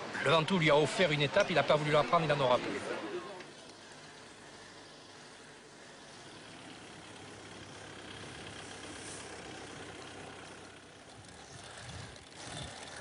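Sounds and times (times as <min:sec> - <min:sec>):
road noise: 0:00.0 - 0:13.0
wind: 0:00.0 - 0:13.0
vehicle engine running: 0:01.0 - 0:13.0.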